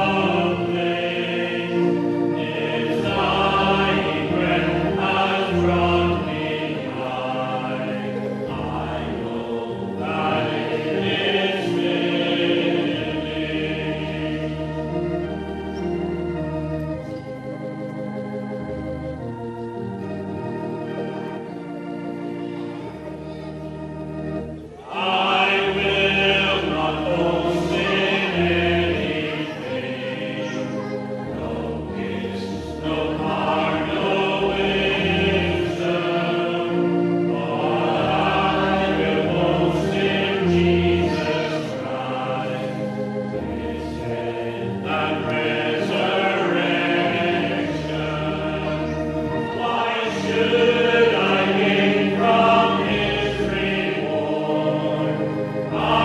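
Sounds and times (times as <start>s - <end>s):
congregation singing a hymn: 0.0s - 56.0s
organ with long bass notes: 0.0s - 56.0s.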